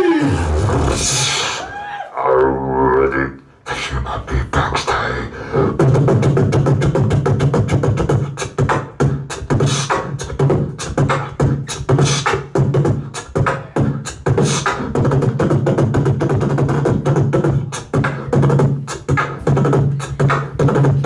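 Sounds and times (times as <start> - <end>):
beatboxing through a microphone: 0.0 - 21.0.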